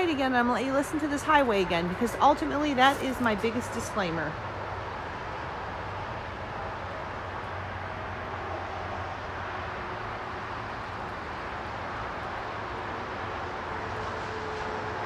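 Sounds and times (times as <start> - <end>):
highway traffic roar: 0.0 - 15.0.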